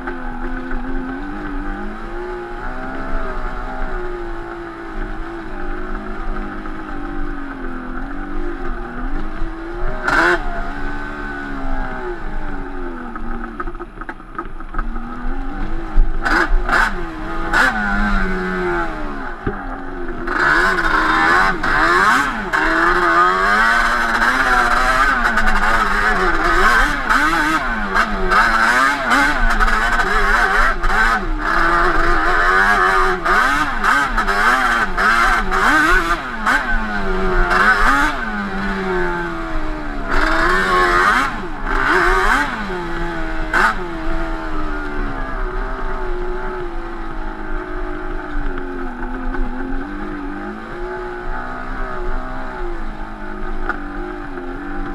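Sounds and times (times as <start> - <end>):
two-stroke engine revving: 0.0 - 54.9.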